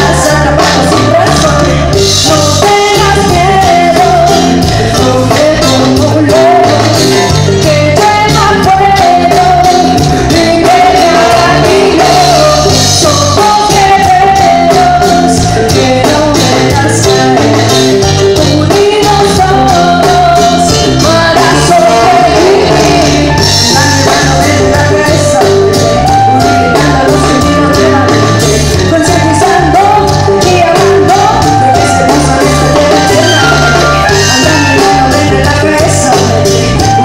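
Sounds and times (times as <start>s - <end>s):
bass: 0.0s - 37.0s
drum kit: 0.0s - 37.0s
person singing: 0.0s - 37.0s
trombone and saxophone horn line: 0.0s - 37.0s.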